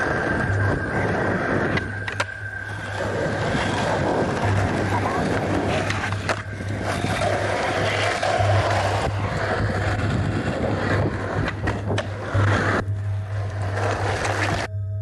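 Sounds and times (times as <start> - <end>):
skateboard clacking: 0.0 - 14.7
skateboard wheels rolling on asphalt: 0.0 - 14.7.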